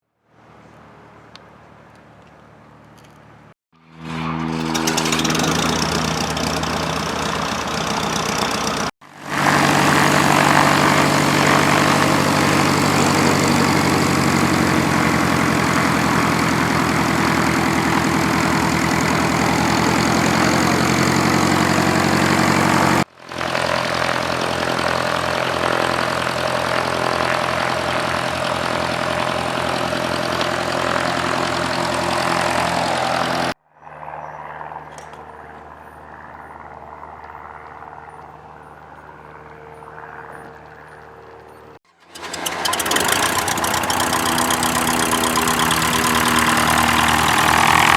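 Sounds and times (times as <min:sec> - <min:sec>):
propeller airplane engine running: 0:02.7 - 0:47.9.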